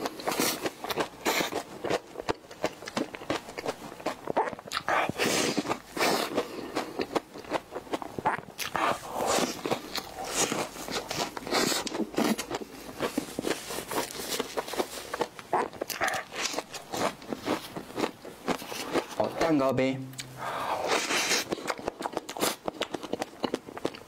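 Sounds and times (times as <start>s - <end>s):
chewing and lip smacking: 0.0s - 19.5s, 20.2s - 24.0s.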